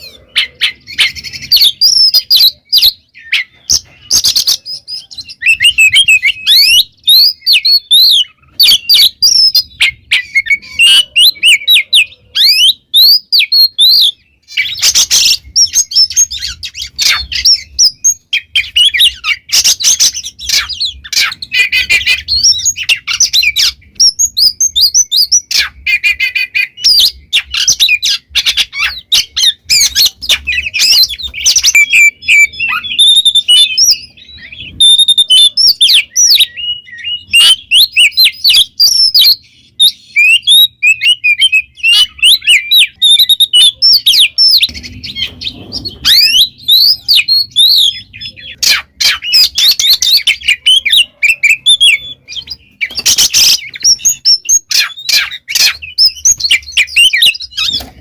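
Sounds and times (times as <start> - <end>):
songbird singing whistles and chirps: 0.0 - 58.0.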